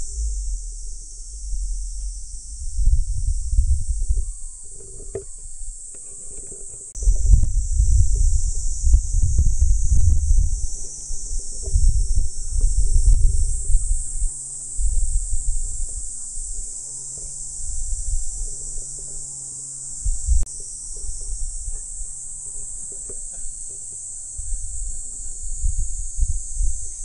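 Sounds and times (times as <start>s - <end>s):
wind buffeting microphone: 0.0s - 19.0s, 20.0s - 27.0s
insects chirring: 0.0s - 27.0s.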